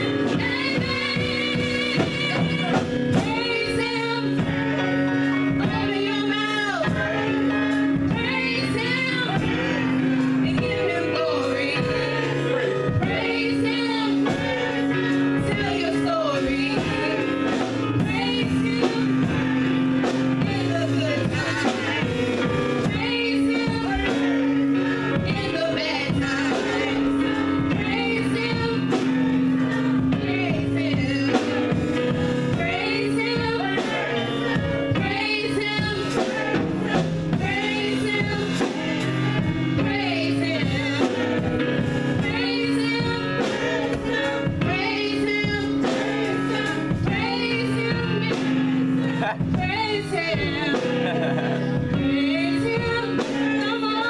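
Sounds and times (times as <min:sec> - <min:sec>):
gospel singing voices: 0:00.0 - 0:54.0
instrumental backing: 0:00.0 - 0:54.0.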